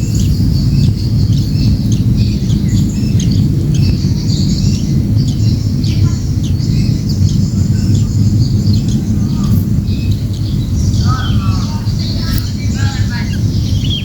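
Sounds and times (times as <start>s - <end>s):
birds chirping: 0.0s - 14.0s
loud low rumble: 0.0s - 14.0s.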